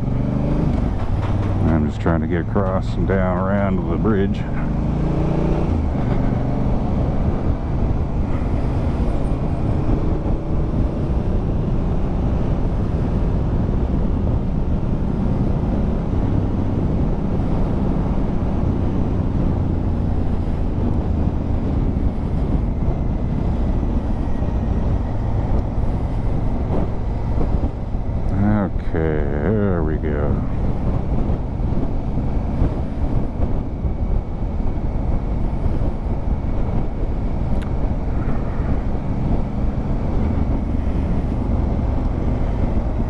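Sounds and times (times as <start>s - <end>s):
road noise: 0.0s - 43.0s
wind noise: 0.0s - 43.0s.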